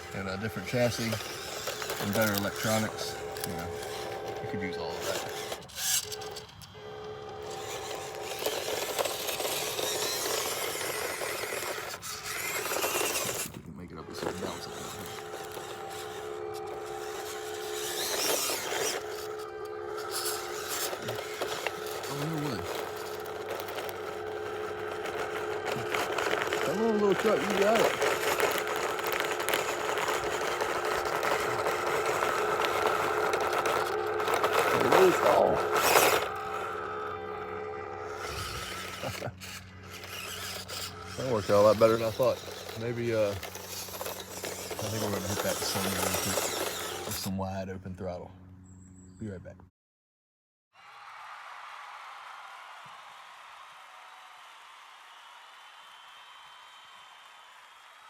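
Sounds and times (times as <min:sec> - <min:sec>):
toy truck electric motor whining: 0:00.0 - 0:47.6
tires scraping on dirt and rock: 0:00.0 - 0:48.8.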